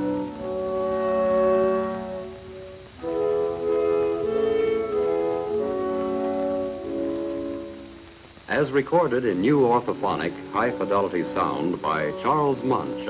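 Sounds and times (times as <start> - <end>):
orchestral music with held chords: 0.0 - 13.0.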